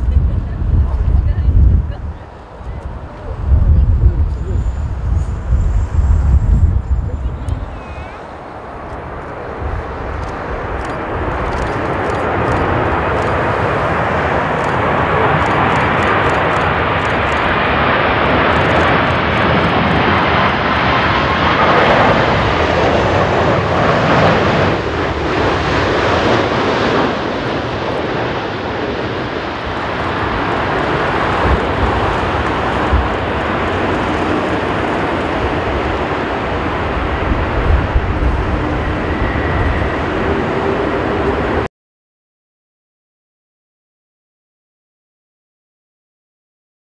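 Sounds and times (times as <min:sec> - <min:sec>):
jet airliner landing: 0:00.0 - 0:41.7
wind buffeting microphone: 0:00.0 - 0:41.7.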